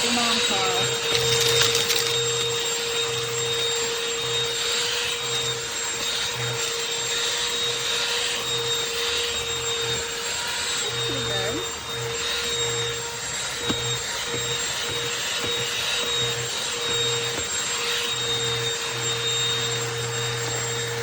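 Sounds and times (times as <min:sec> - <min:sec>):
handheld vacuum motor whine: 0:00.0 - 0:21.0.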